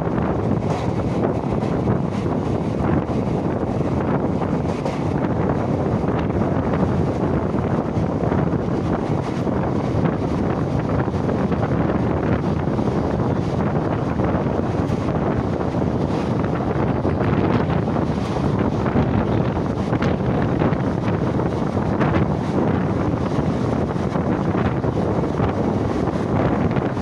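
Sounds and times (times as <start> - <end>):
train coach running noise: 0.0 - 27.0
wind buffeting microphone: 0.0 - 27.0.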